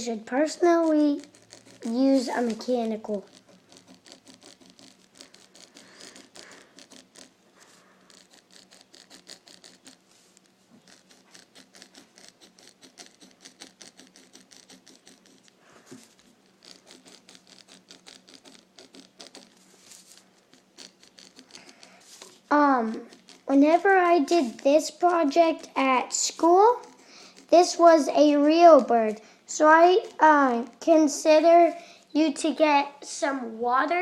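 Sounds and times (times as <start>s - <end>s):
pencil scratching on paper: 0.0s - 30.9s.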